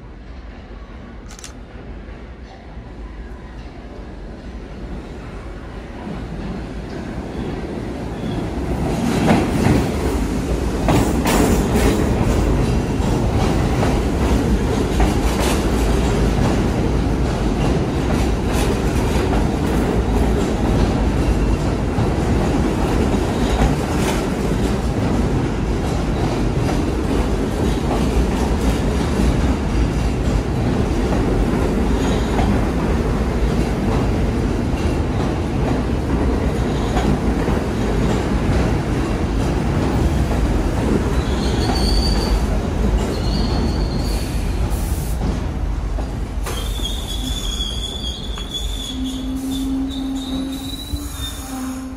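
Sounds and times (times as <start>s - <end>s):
subway train rumbling past: 0.0s - 51.9s.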